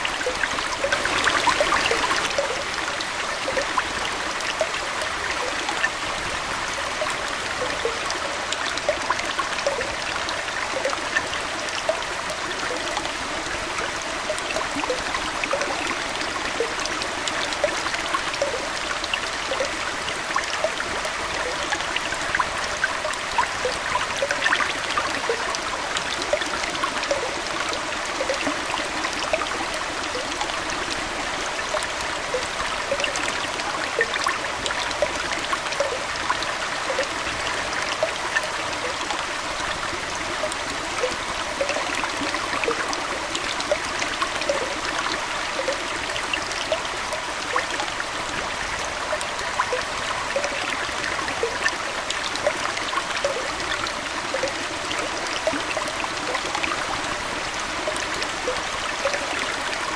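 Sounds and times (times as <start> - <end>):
aquarium water trickling: 0.0 - 59.9
small bubbling plinks: 0.0 - 59.9.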